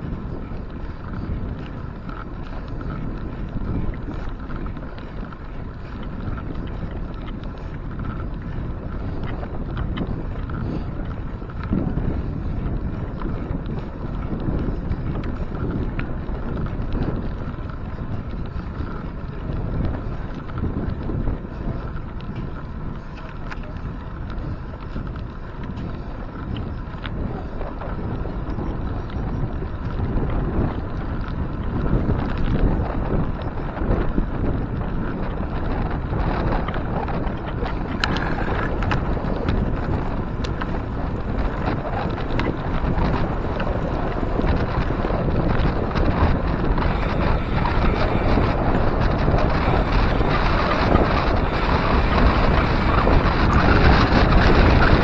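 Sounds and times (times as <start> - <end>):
bicycle clicks and rattles: 0.0 - 55.0
tyres rolling on concrete: 0.0 - 55.0
wind buffeting microphone: 0.0 - 55.0.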